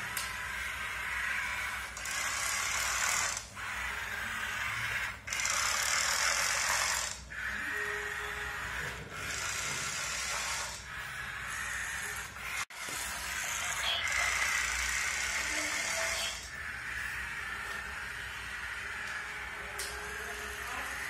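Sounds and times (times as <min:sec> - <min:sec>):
toy motor and gears whirring: 0:00.0 - 0:21.0.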